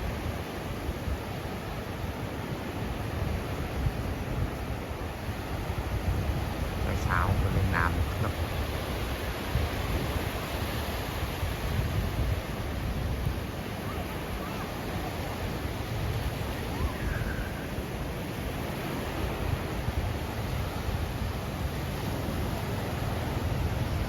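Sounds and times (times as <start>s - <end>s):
sea surf washing onto beach: 0.0s - 24.0s
wind rumbling on microphone: 0.0s - 24.0s.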